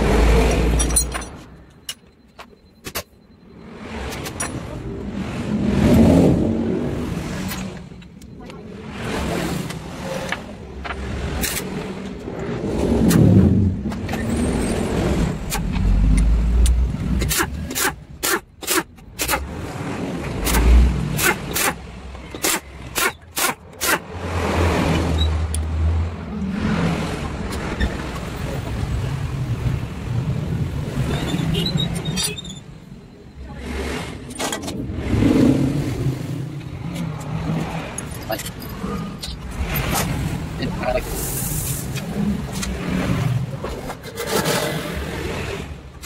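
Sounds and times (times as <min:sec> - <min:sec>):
low rumble of passing vehicles: 0:02.6 - 0:46.0.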